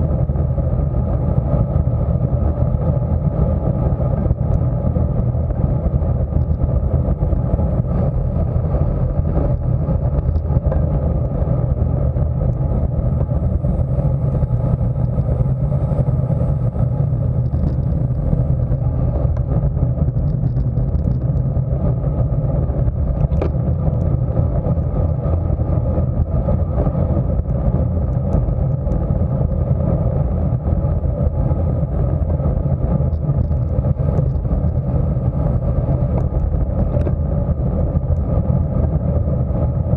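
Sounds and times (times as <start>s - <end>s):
tyres humming on asphalt: 0.0s - 39.9s
wind rumble on microphone: 0.0s - 39.9s.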